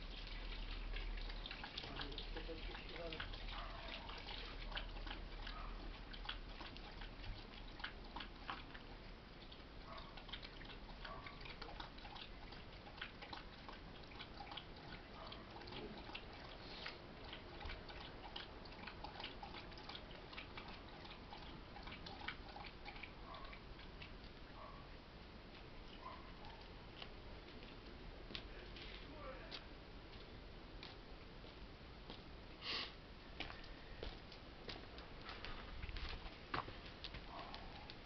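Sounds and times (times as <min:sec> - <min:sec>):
low background hiss: 0:00.0 - 0:38.0.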